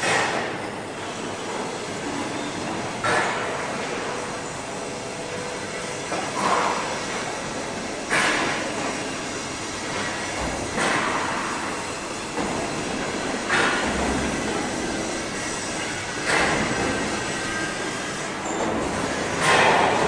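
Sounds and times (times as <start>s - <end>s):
factory machinery noise: 0.0s - 20.0s.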